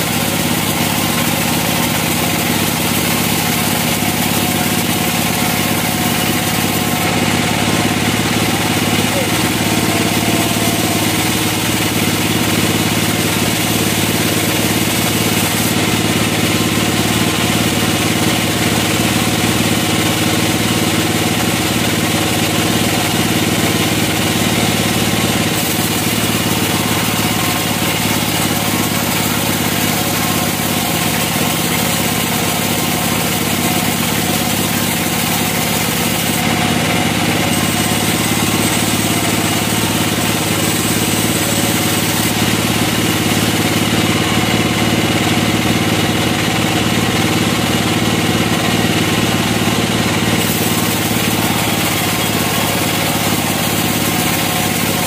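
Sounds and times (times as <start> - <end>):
band sawmill cutting log: 0.0 - 55.0.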